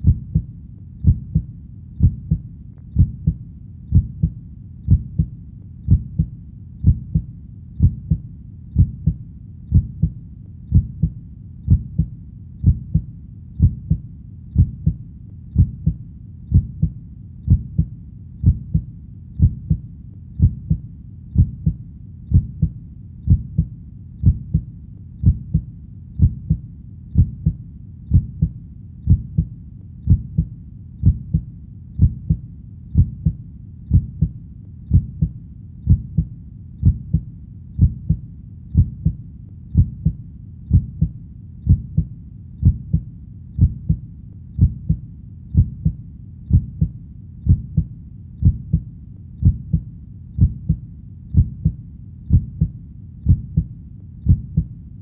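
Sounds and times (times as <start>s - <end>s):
heartbeat thumps: 0.0s - 54.8s
soft low rumble: 0.0s - 55.0s.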